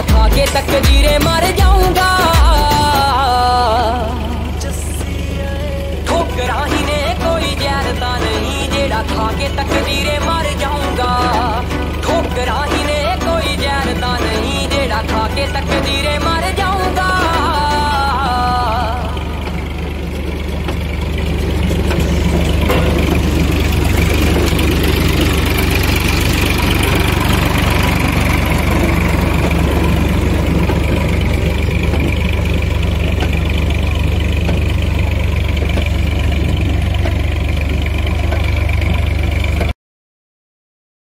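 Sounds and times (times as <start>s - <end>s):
planter machine noise: 0.0s - 39.8s
tractor diesel engine running: 0.0s - 39.8s.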